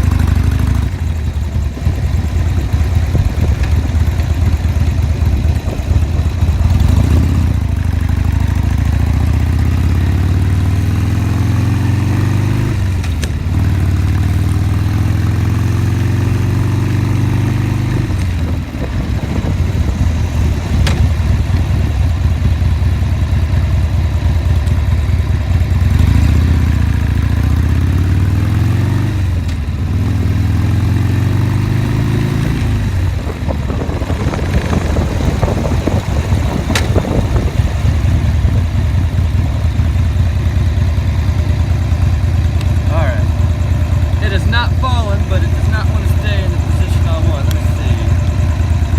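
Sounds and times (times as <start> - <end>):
motorcycle engine shifting gears: 0.0 - 48.9.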